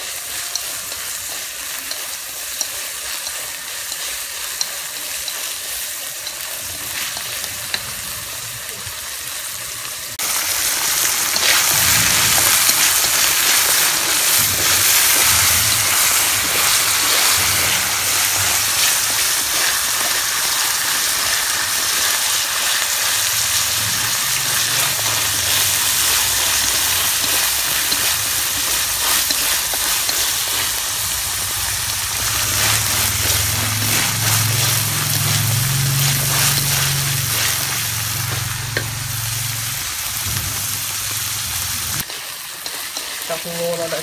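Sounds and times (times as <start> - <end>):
chopsticks stirring: 0.0 - 9.2, 10.3 - 39.4, 42.0 - 44.0
corn sizzling in hot oil: 0.0 - 44.0.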